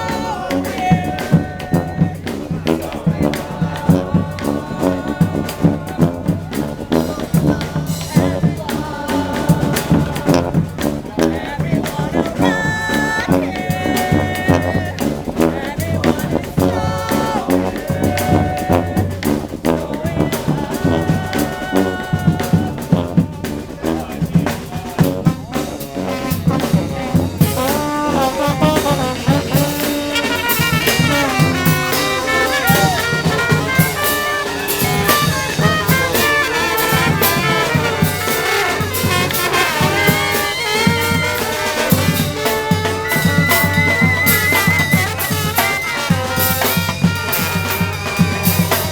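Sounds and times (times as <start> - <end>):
brass band playing: 0.0 - 48.9.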